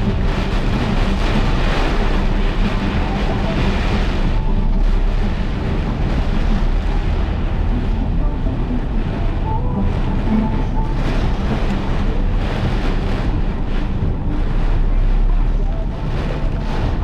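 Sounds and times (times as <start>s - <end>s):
rain and wind hissing on car: 0.0s - 17.0s
road and engine rumble: 0.0s - 17.0s.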